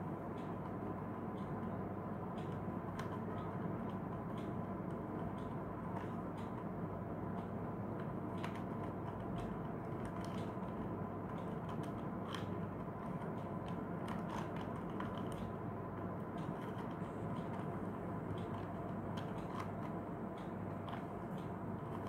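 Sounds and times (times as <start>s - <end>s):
background hiss and hum: 0.0s - 22.0s.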